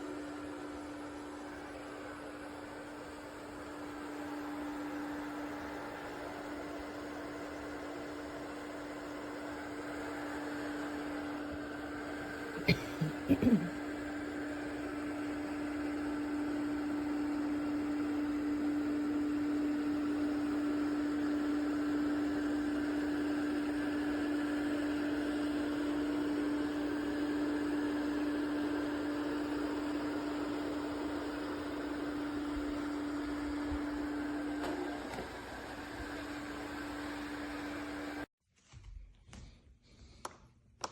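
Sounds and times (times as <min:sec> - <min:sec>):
robot vacuum motor humming: 0:00.0 - 0:38.3.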